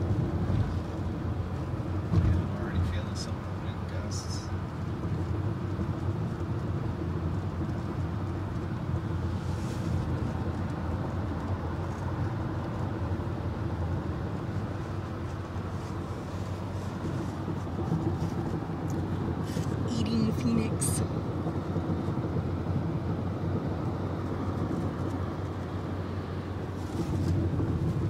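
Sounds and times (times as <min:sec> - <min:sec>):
car road noise from cabin: 0:00.0 - 0:28.0.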